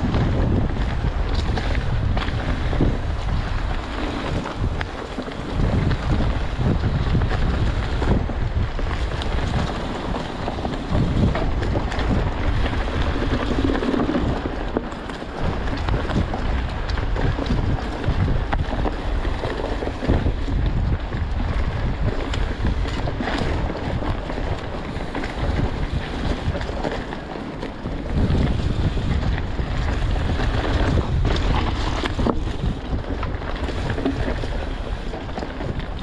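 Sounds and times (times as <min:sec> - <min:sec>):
bike knocking and rattling: 0:00.0 - 0:36.0
bike tyres rumbling on dirt: 0:00.0 - 0:36.0
wind buffeting microphone: 0:00.0 - 0:36.0.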